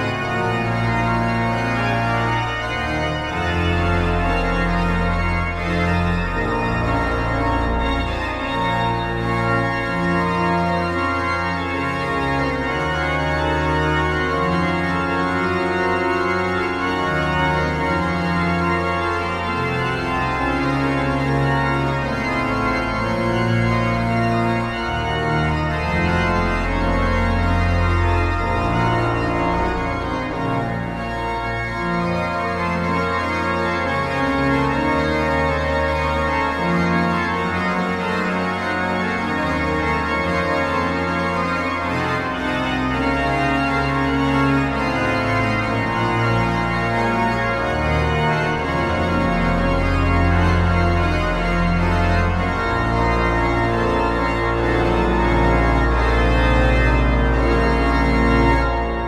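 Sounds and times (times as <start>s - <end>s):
pipe organ chords: 0.0s - 59.0s.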